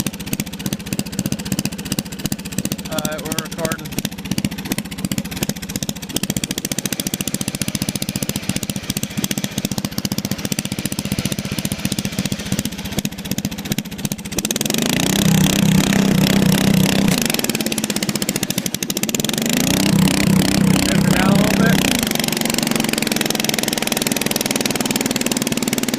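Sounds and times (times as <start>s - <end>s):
riding lawnmower engine: 0.0s - 25.9s.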